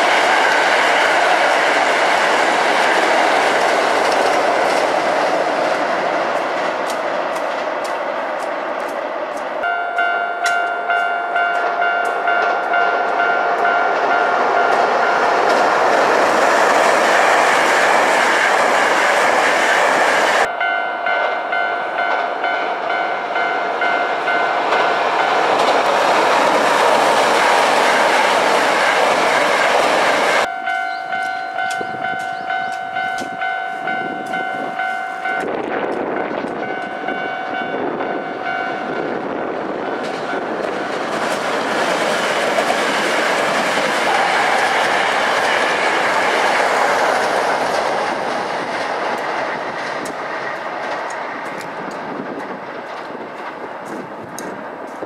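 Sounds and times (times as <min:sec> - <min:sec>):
train wheels clickety-clack on bridge: 0:00.0 - 0:55.0.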